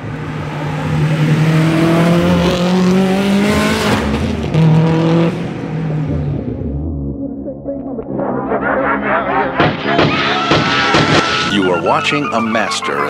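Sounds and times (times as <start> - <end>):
car engine accelerating hard: 0.0 - 7.1, 8.4 - 12.8.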